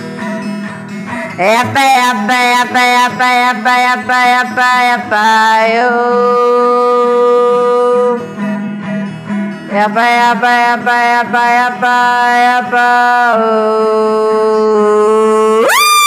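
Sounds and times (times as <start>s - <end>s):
strummed acoustic guitar: 0.0s - 15.7s.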